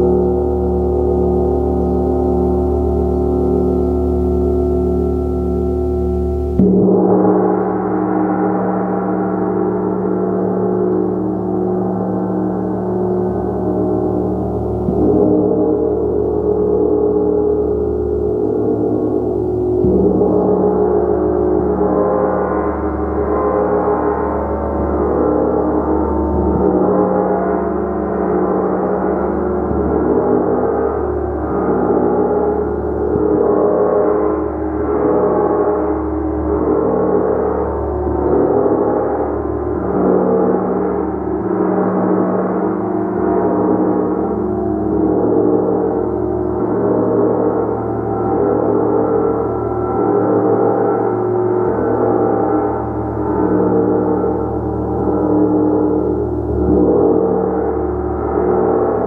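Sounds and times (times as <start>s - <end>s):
large gong ringing: 0.0s - 59.0s.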